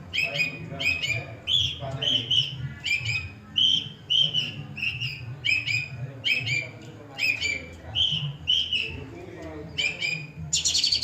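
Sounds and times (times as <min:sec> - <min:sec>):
bird chirping: 0:00.1 - 0:09.1, 0:09.7 - 0:11.0.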